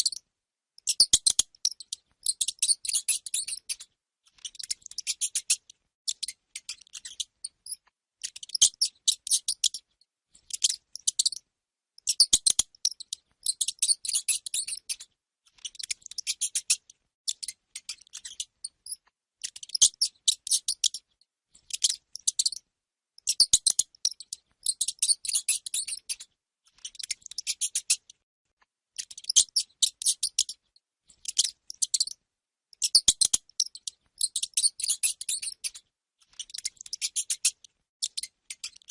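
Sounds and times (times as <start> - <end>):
hamster squeaking: 0.0 - 0.2, 0.8 - 28.2, 29.0 - 32.2, 32.8 - 38.9.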